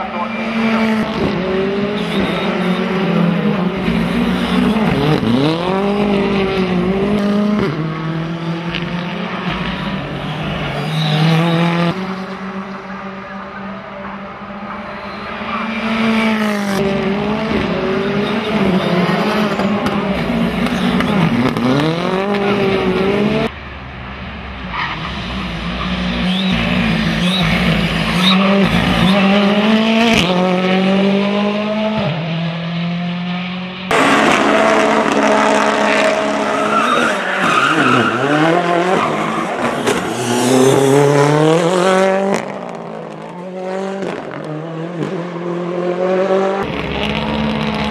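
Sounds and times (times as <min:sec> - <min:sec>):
rally car engine revving: 0:00.0 - 0:23.5, 0:24.7 - 0:47.9.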